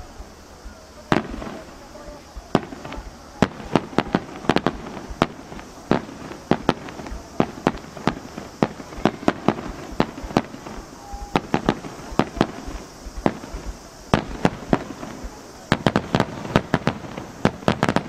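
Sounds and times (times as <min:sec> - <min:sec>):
fireworks bursting with sharp bangs: 0:00.0 - 0:18.0
steady background hiss: 0:00.0 - 0:18.0.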